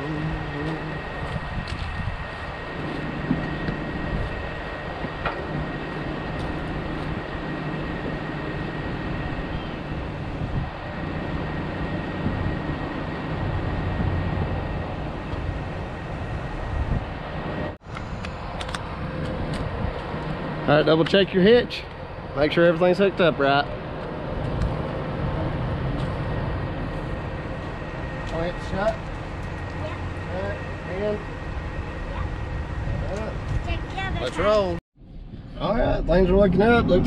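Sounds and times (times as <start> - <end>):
faint high whine: 0.0 - 37.0.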